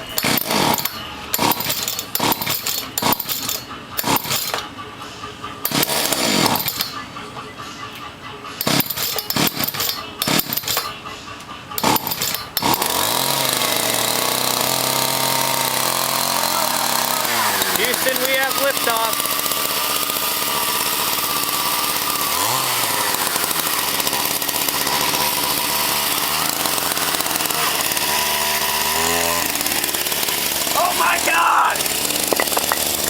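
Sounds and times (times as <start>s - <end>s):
chainsaw engine pull-starting and running: 0.0s - 4.7s, 5.6s - 7.0s, 8.6s - 11.0s, 11.8s - 33.0s.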